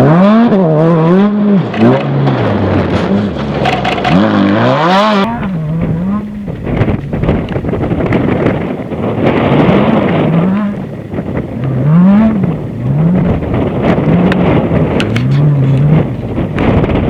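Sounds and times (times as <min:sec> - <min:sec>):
buggy engine revving: 0:00.0 - 0:17.0
wind and terrain noise: 0:00.0 - 0:17.0.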